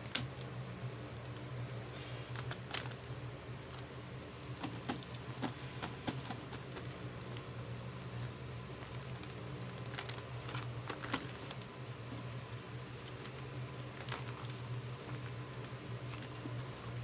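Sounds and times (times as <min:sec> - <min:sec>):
steady low hum: 0:00.0 - 0:17.0
plastic packaging crinkling: 0:02.3 - 0:17.0.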